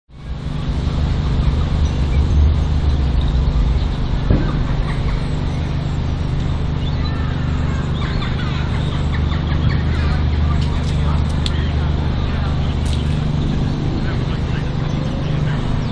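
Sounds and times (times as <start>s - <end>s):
small engine running: 0.1s - 15.9s.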